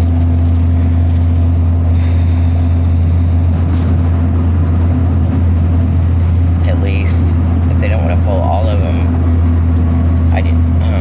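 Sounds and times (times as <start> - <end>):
car cabin drone: 0.0 - 11.0.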